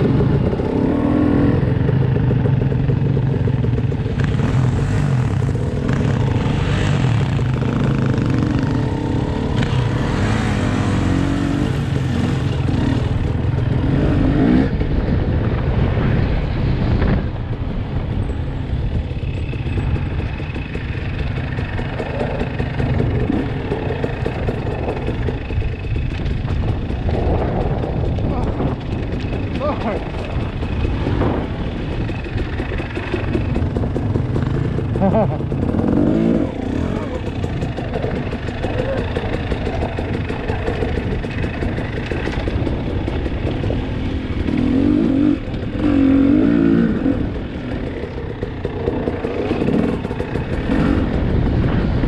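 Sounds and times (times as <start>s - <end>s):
dirt bike engine revving: 0.0s - 16.0s, 19.3s - 52.0s.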